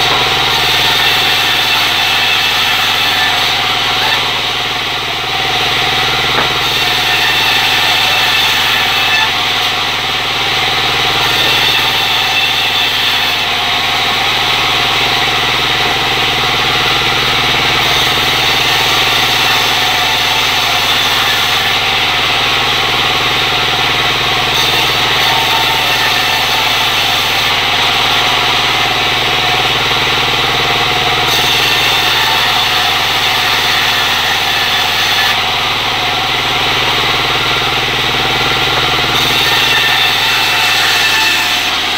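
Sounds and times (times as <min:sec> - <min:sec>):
circular saw cutting wood: 0:00.0 - 0:41.9.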